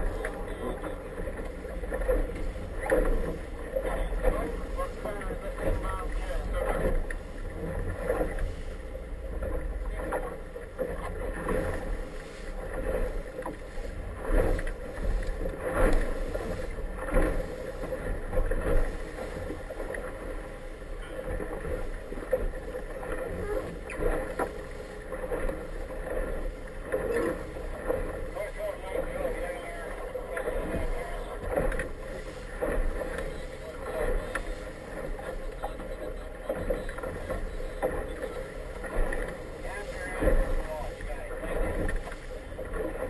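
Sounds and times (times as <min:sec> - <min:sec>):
low engine drone: 0:00.0 - 0:43.0
water slapping against hull: 0:00.0 - 0:43.0.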